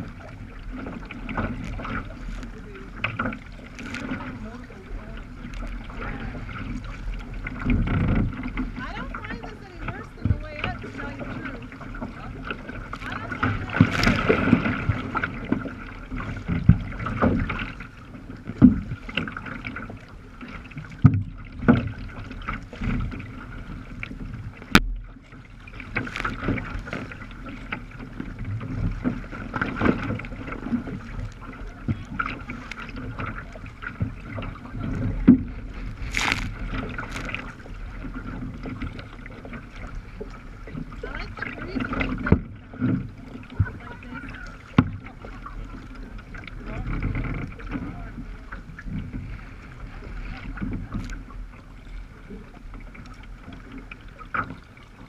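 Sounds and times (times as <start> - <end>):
seawater splashing against kayak: 0.0 - 55.0.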